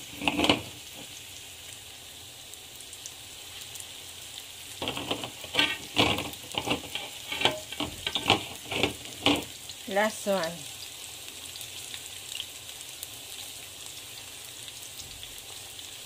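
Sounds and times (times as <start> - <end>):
fritters sizzling in oil: 0.0 - 16.0.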